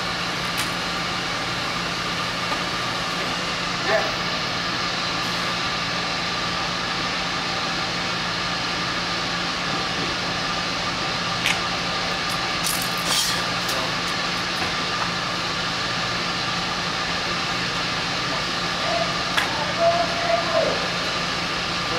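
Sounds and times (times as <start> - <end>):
ventilation blowers humming: 0.0 - 21.9.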